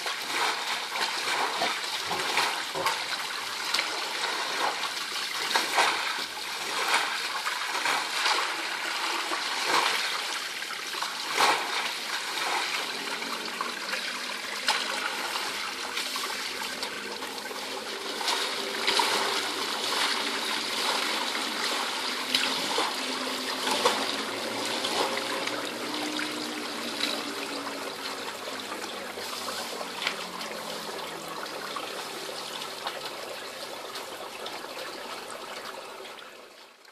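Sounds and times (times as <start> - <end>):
push broom sweeping water: 0.0 - 32.2
water trickling: 0.0 - 36.9.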